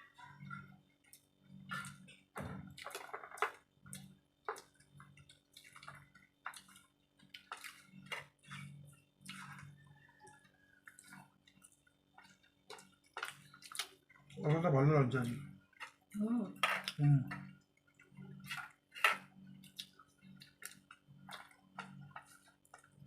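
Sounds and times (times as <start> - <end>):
wet chewing sounds: 0.1 - 14.4, 15.3 - 23.0.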